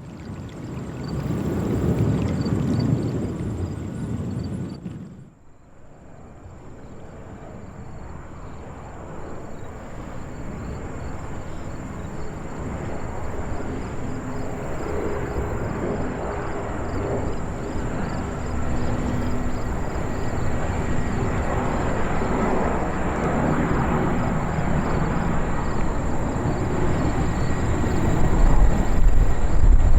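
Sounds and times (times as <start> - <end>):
jet engines rumbling: 0.3 - 29.9.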